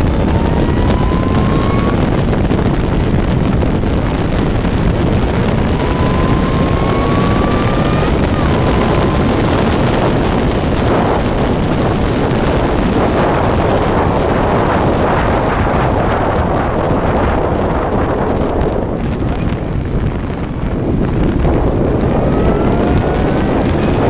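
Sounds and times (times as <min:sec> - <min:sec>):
race car engine: 0:00.0 - 0:24.0
wind buffeting microphone: 0:00.0 - 0:24.0.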